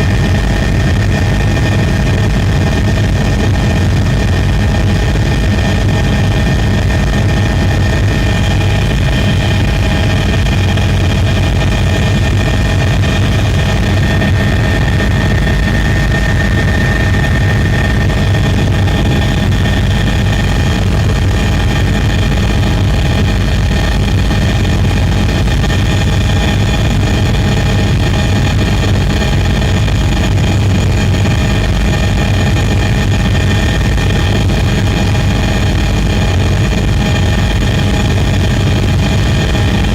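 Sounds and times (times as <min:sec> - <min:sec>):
mechanical drone with whining tones: 0:00.0 - 0:39.9.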